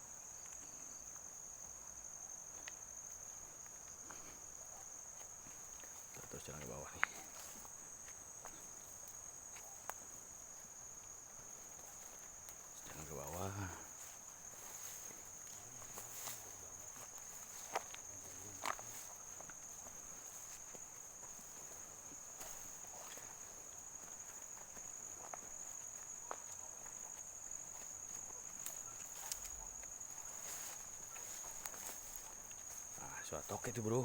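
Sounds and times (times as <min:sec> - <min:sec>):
crickets trilling: 0:00.0 - 0:34.0
footsteps on ground: 0:05.2 - 0:34.0.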